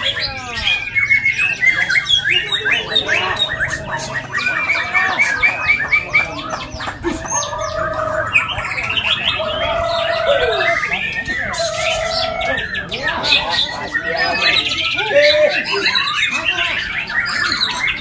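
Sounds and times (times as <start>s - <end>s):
songbirds singing trills and whistles: 0.0s - 18.0s.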